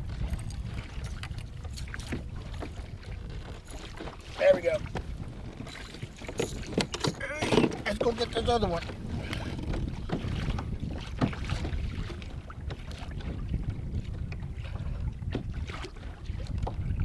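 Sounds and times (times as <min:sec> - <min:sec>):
water sounds around kayak: 0:00.0 - 0:17.0
wind buffeting microphone: 0:00.0 - 0:17.0.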